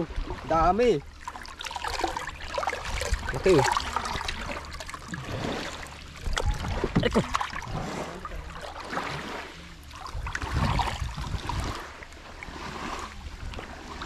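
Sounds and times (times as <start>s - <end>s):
seawater splashing and sloshing: 0.0s - 14.0s.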